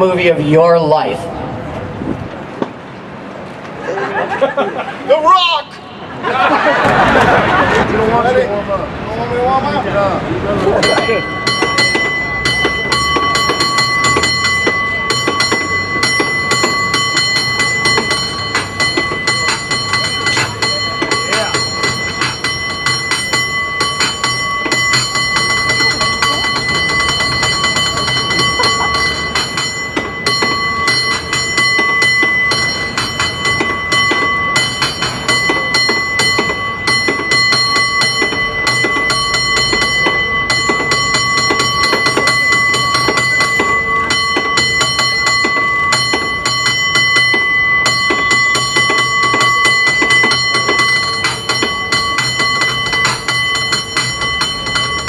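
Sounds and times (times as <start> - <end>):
cable car bell rung rapidly: 10.6 - 55.0.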